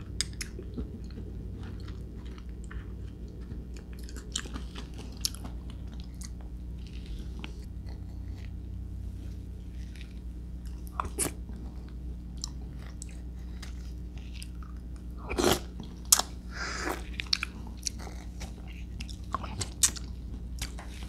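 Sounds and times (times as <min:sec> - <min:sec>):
wet chewing and smacking: 0:00.0 - 0:08.6, 0:09.7 - 0:21.0.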